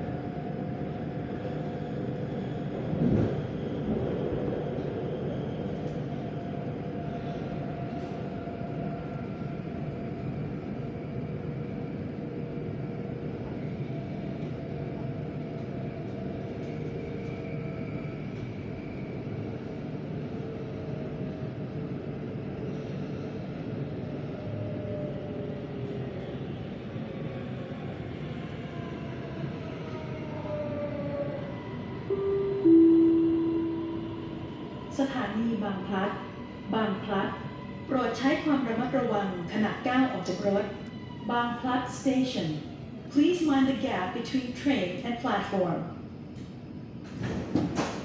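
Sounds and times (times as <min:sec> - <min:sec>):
metro train rumble: 0:00.0 - 0:48.0.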